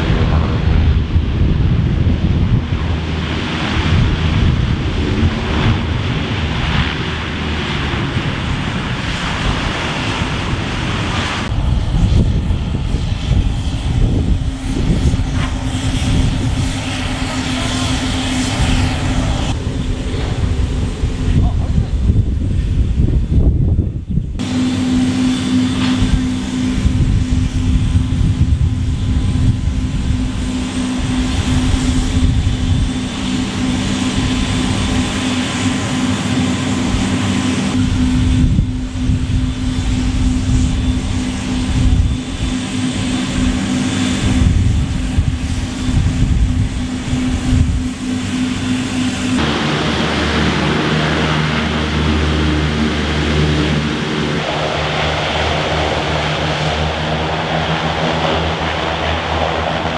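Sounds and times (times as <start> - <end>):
hovercraft turbine drone: 0.0 - 59.9.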